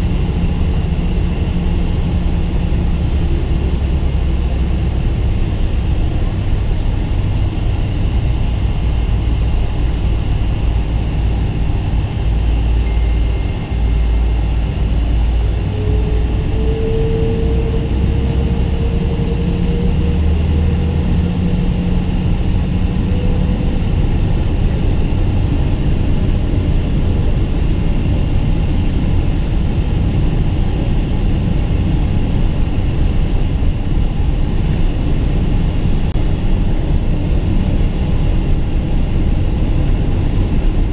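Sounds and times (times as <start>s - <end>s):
deep rumble: 0.0s - 40.9s
faint whine: 0.0s - 40.9s
jet engines roaring: 0.0s - 40.9s.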